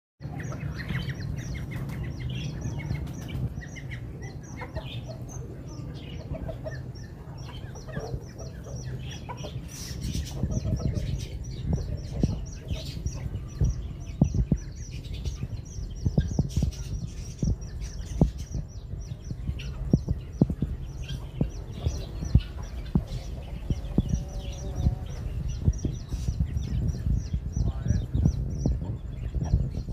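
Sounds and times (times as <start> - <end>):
small birds chirping: 0.2 - 29.9
steady low rumble: 0.2 - 29.9.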